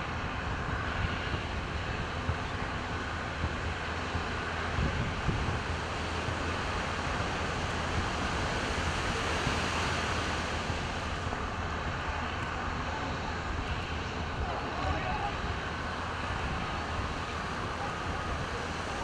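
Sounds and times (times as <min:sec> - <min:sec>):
bulldozer diesel engines droning: 0:00.0 - 0:19.0.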